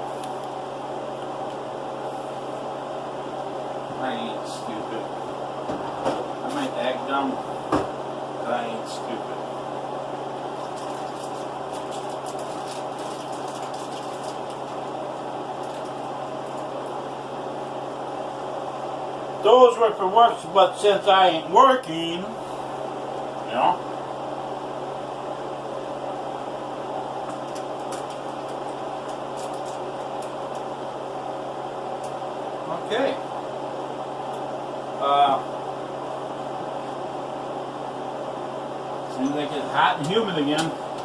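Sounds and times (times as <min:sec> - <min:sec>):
household appliance humming: 0:00.0 - 0:41.0.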